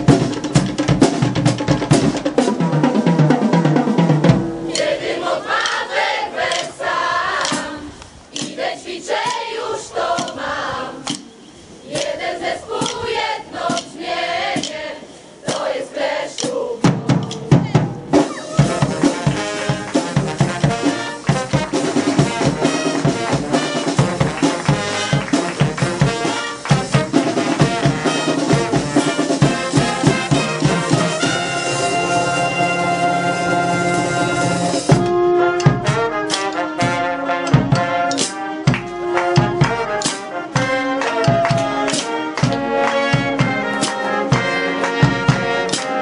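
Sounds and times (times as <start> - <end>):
marching snare and bass drums: 0.0 - 46.0.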